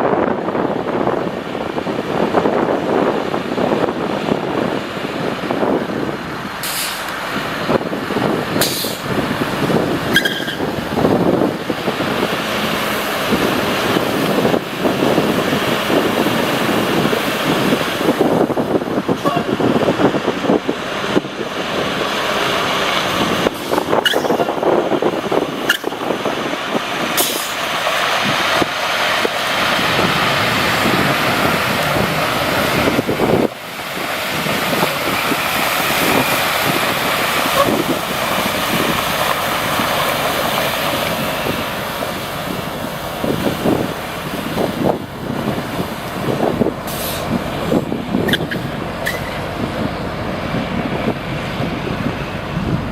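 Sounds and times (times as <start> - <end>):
truck engine running: 0.0 - 52.9.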